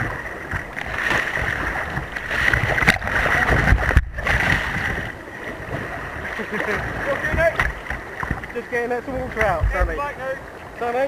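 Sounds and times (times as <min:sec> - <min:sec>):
kayak paddle strokes: 0:00.0 - 0:11.0
water splashing: 0:00.0 - 0:11.0.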